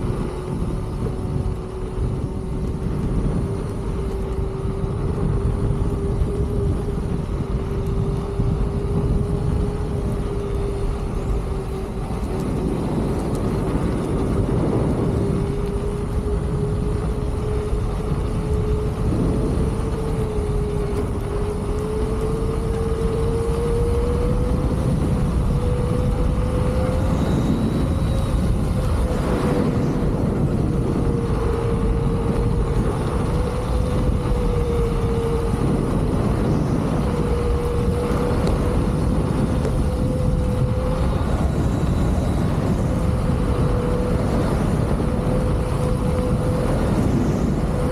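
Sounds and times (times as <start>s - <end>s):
electric motor whining: 0.0s - 47.9s
wind and road noise: 0.0s - 47.9s.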